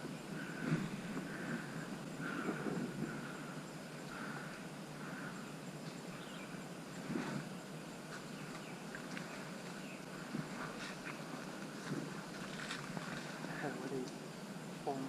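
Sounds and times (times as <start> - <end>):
quiet outdoor background noise: 0.0 - 15.0.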